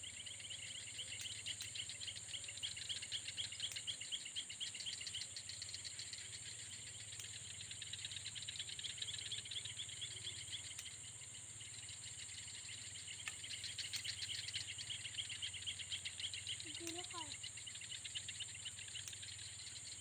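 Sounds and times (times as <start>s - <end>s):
crickets chirping: 0.0s - 20.0s
insects buzzing: 0.0s - 20.0s.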